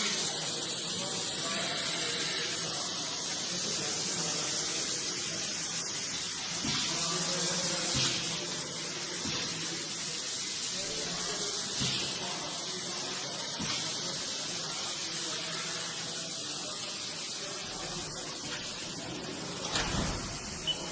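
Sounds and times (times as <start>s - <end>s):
machine hiss: 0.0s - 20.9s.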